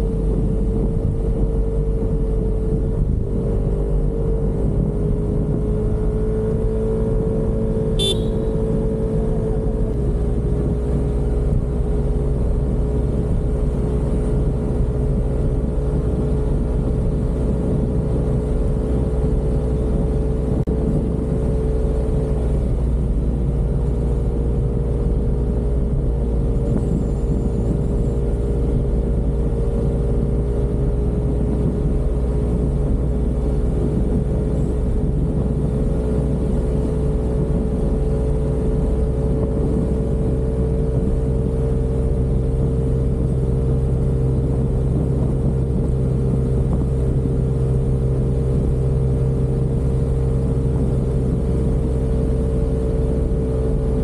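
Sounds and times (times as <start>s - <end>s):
road and wind noise: 0.0s - 54.0s
scooter engine cruising: 0.0s - 54.0s.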